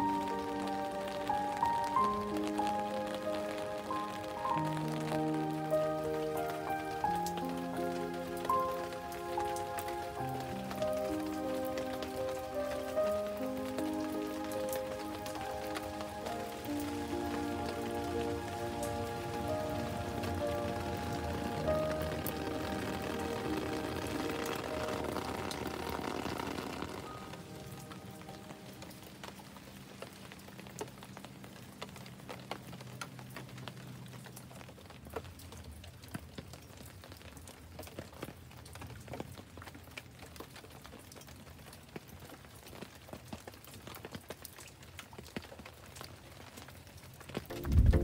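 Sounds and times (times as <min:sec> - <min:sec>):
rain hiss: 0:00.0 - 0:48.0
raindrops ticking on leaves: 0:00.0 - 0:48.0.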